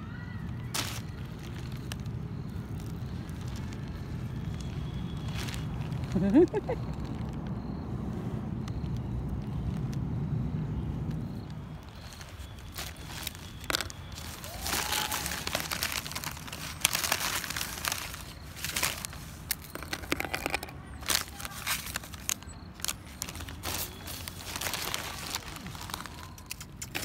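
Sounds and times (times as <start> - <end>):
biscuits snapping: 0.6 - 7.6, 11.0 - 27.0.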